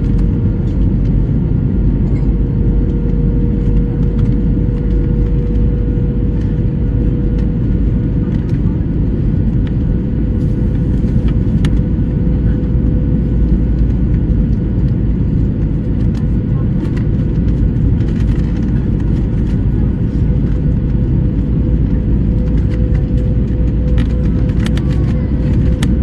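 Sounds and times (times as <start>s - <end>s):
airliner engines and rushing air: 0.0s - 26.0s.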